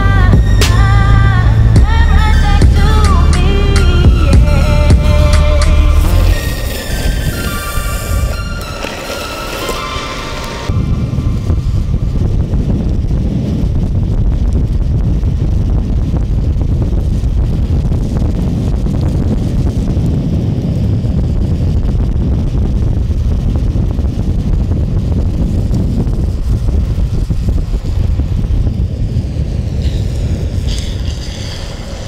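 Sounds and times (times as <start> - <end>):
heavy wind noise on microphone: 0.0 - 32.0.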